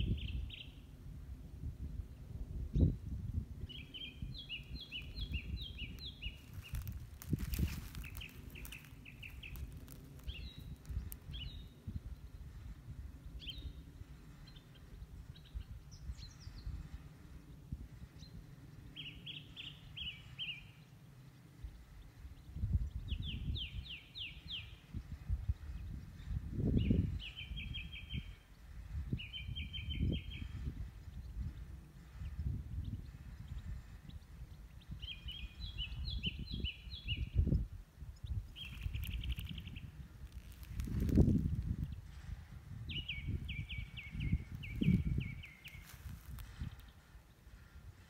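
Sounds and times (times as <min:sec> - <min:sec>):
songbirds singing: 0:00.0 - 0:00.9, 0:03.6 - 0:48.0.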